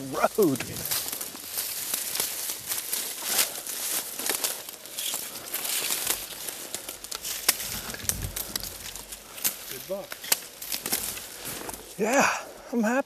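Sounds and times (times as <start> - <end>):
dry leaves crunching underfoot: 0.0 - 12.1.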